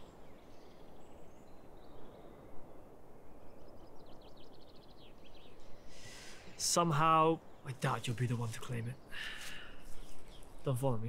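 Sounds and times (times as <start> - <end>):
low background noise: 0.0 - 11.0
songbirds chirping: 0.0 - 11.0.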